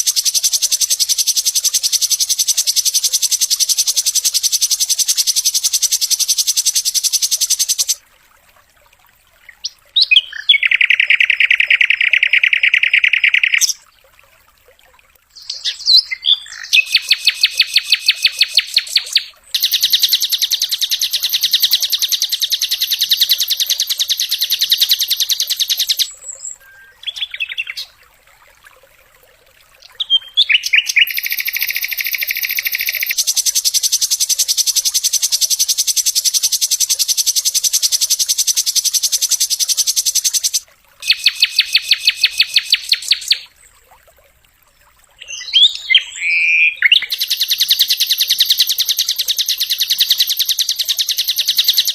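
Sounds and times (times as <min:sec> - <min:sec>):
bird singing rapid trills: 0:00.0 - 0:08.0, 0:09.6 - 0:13.8, 0:15.4 - 0:27.9, 0:29.9 - 0:43.4, 0:45.2 - 0:51.9.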